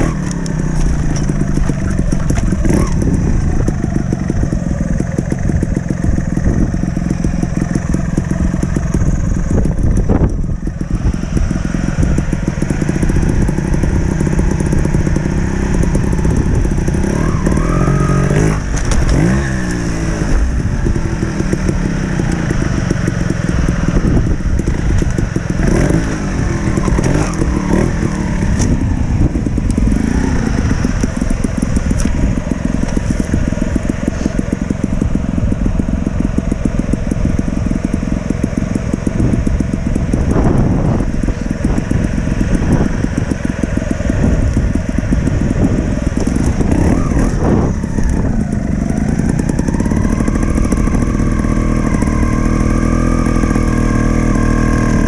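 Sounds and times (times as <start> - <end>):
motorcycle engine throttle blips: 0.0 - 55.0.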